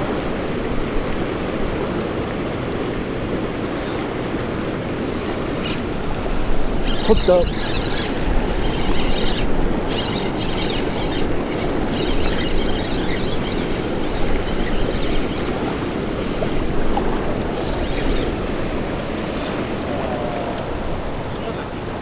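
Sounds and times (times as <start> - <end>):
river water roaring: 0.0 - 22.0
wind on microphone: 0.0 - 22.0.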